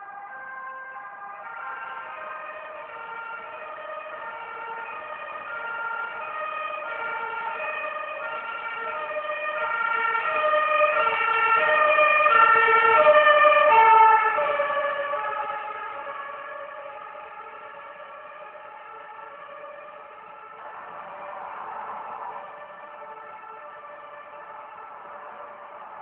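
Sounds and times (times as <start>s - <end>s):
two-tone siren: 0.0s - 26.0s.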